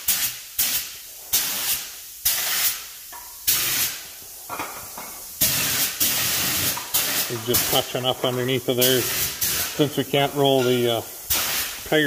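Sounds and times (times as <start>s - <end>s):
spray gun hissing: 0.0s - 4.5s, 5.2s - 12.0s.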